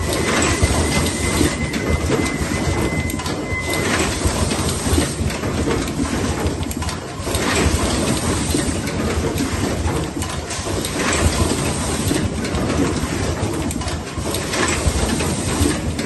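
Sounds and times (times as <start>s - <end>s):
machine clicks: 0.0s - 16.0s
machine mechanical clatter: 0.0s - 16.0s.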